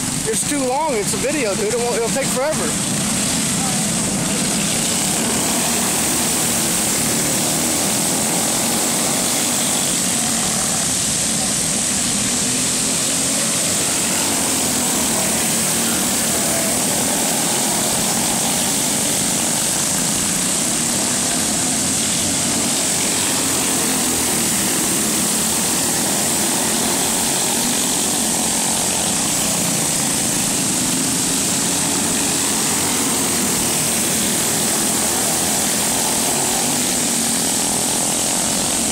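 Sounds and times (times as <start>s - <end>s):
go-kart engines passing: 0.0s - 38.9s.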